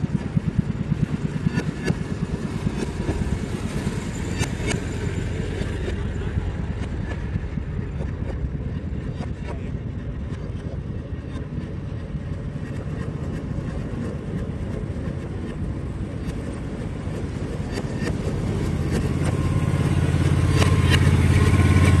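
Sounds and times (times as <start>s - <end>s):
small track car engine chugging: 0.0s - 22.0s.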